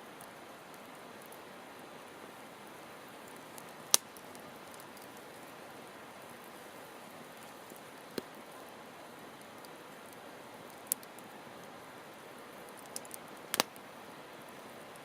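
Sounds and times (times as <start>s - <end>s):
campfire hissing: 0.0s - 15.0s
fire crackling pops: 0.1s - 15.0s.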